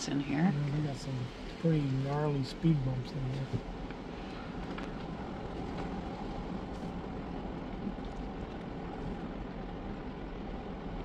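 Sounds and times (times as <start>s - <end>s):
engine and road rumble in car: 0.0s - 11.0s.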